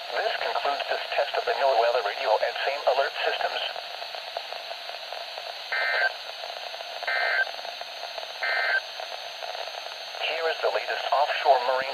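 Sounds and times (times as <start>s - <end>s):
radio receiver hiss: 0.1s - 11.9s.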